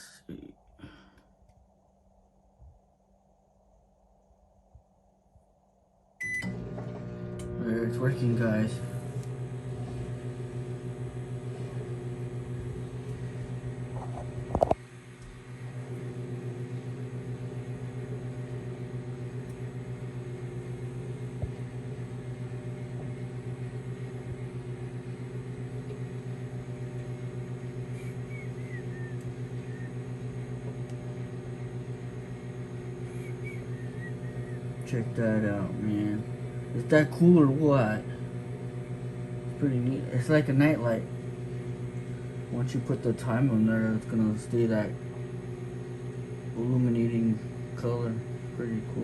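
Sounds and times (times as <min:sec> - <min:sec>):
microwave oven humming: 0:06.2 - 0:49.0.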